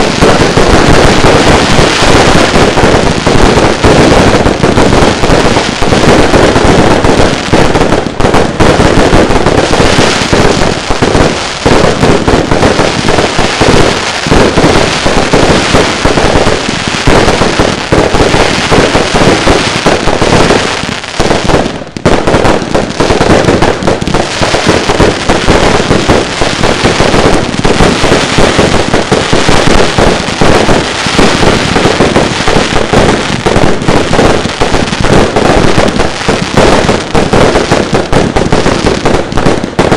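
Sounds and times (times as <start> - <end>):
firework bangs and crackles: 0.0 - 39.9.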